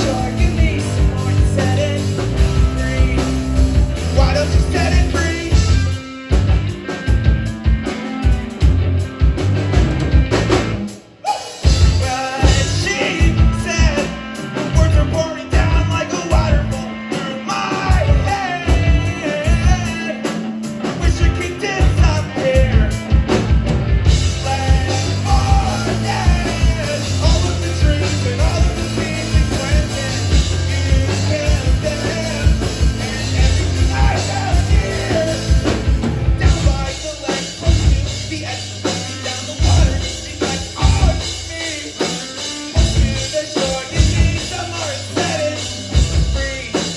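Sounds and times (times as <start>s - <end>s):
lead vocal singing: 0.0s - 6.0s, 11.0s - 46.9s
live rock band playing: 0.0s - 46.9s.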